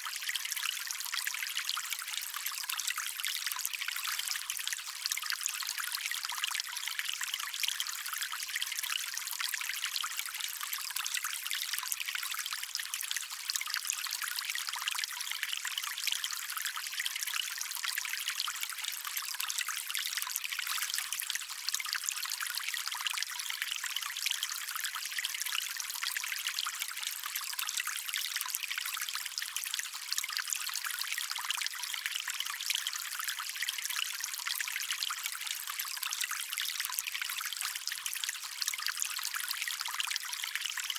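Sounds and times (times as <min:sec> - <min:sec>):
stream water trickling and splashing: 0:00.0 - 0:40.9.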